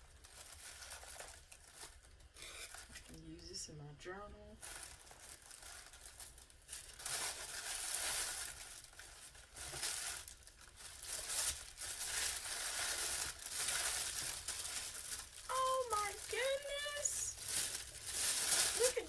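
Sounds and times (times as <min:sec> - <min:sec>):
tissue paper rustling: 0:00.0 - 0:03.0, 0:04.6 - 0:19.0.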